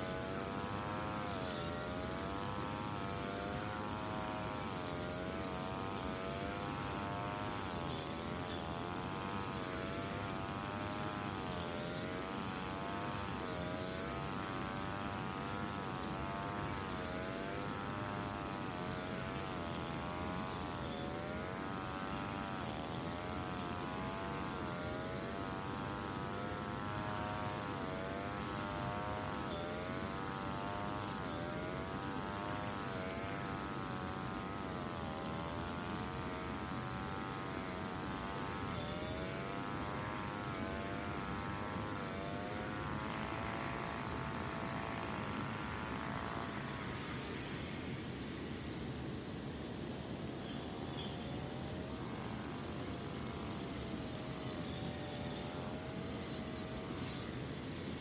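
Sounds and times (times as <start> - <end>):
brush cutter engine running: 0.0 - 58.0.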